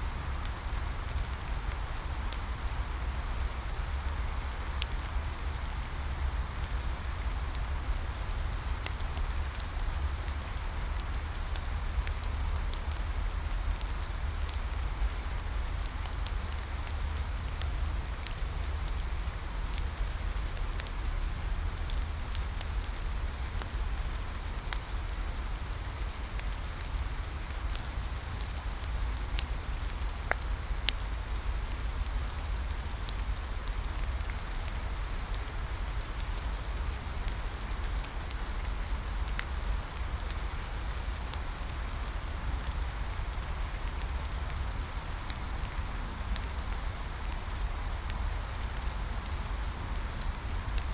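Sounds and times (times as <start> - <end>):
bonfire crackles and pops: 0.0 - 50.9
constant low rumble: 0.0 - 50.9
steady rain falling: 0.0 - 50.9.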